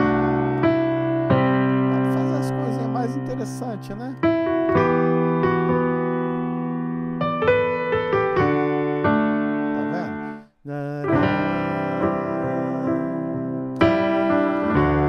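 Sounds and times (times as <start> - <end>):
piano chords on keyboard: 0.0 - 15.0.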